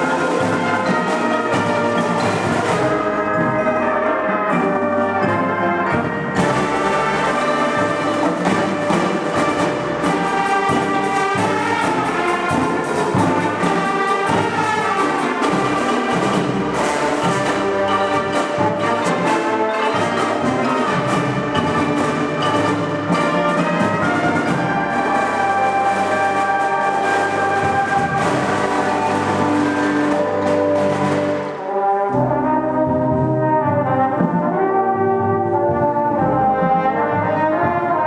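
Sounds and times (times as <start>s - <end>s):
drum line: 0.0s - 34.7s
brass chords: 0.0s - 38.0s.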